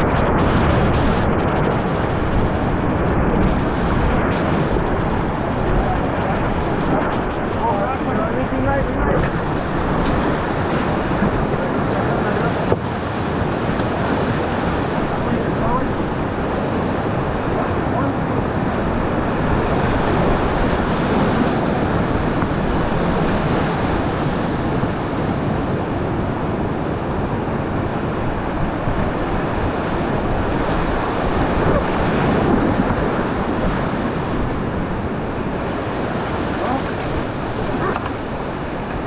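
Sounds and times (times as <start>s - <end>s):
whitewater rushing in creek: 0.0s - 39.0s.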